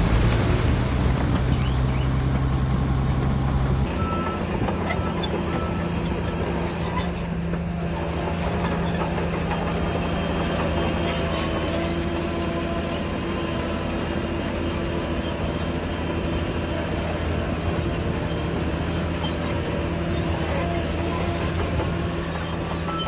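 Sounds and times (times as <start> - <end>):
bulldozer diesel engine running: 0.0 - 23.0
steel crawler tracks clattering: 0.0 - 23.0.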